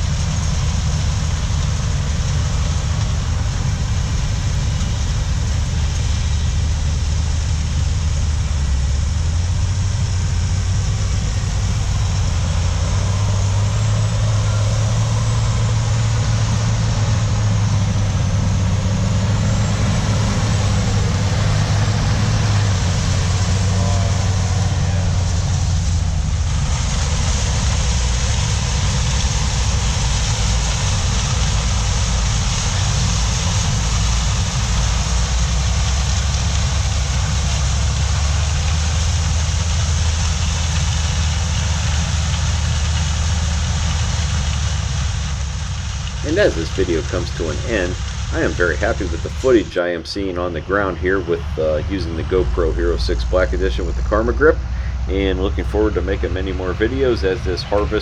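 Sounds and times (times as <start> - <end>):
constant rushing noise: 0.0 - 58.0
diesel engine drone: 0.0 - 58.0.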